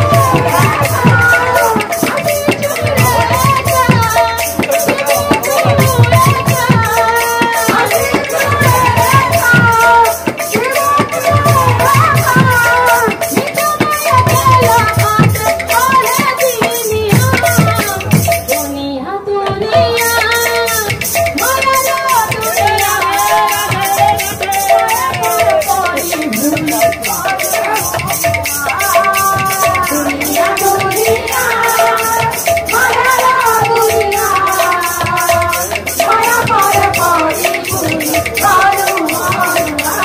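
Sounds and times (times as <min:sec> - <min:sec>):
fast high beat: 0:00.0 - 0:18.8, 0:19.4 - 0:40.0
person singing devotional melody: 0:00.0 - 0:40.0.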